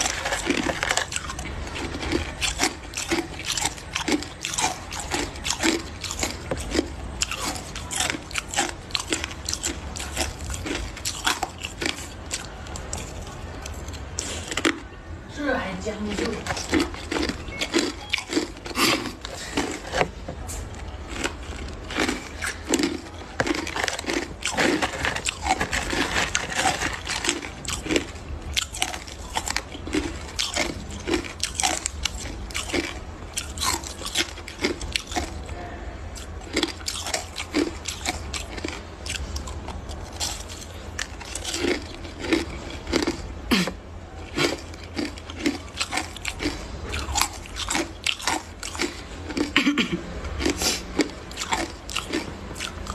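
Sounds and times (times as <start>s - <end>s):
person chewing crushed ice: 0.0s - 15.2s, 15.8s - 52.9s.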